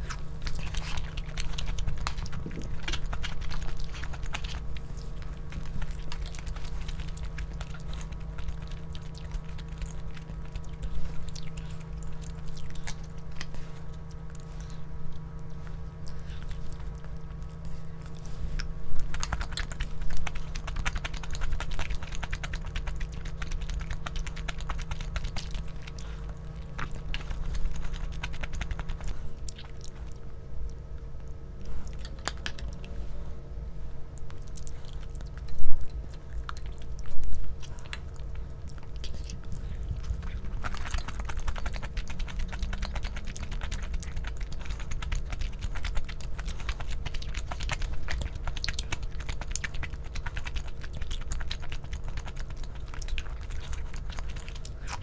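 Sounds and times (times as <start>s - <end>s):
person chewing: 0.0s - 33.0s, 34.0s - 55.0s
steady low hum: 0.0s - 55.0s.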